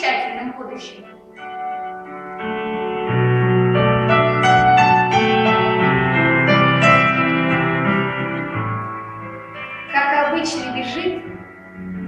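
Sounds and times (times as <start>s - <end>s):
piano or keyboard music: 0.0s - 12.0s
bass line: 1.4s - 12.0s.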